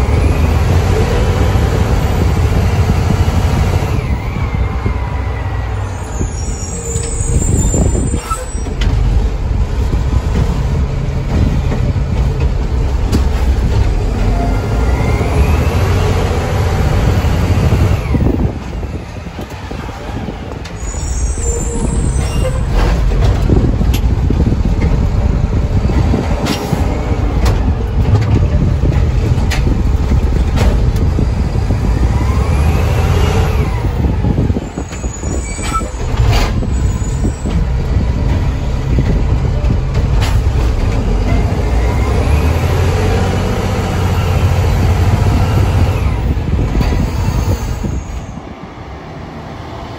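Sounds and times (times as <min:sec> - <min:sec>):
truck engine rumble: 0:00.0 - 0:49.9.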